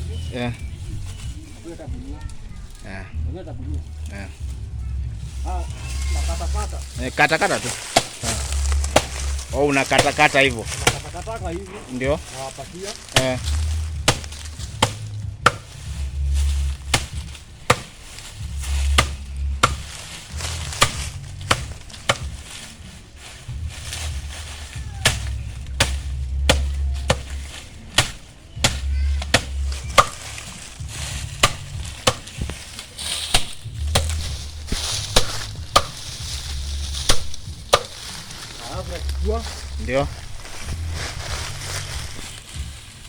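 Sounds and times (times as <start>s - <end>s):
machete chopping maize stalks: 5.7s - 40.7s.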